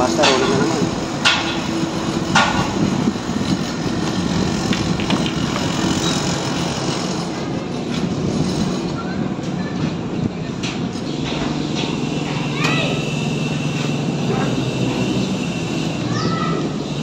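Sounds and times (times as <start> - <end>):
engines rumbling: 0.0 - 17.0.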